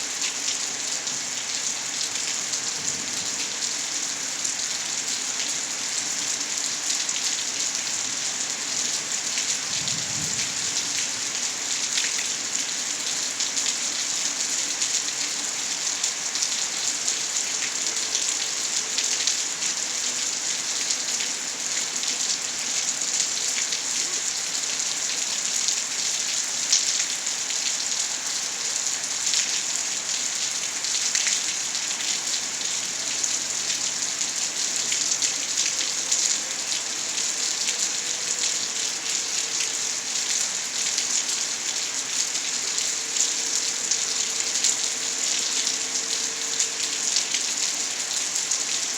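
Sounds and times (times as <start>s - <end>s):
heavy rain on hard surfaces: 0.0s - 48.9s.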